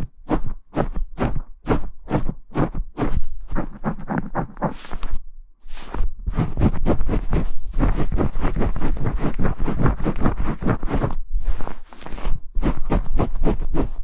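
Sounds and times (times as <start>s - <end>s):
brushing and scratching on microphone: 0.0s - 14.0s.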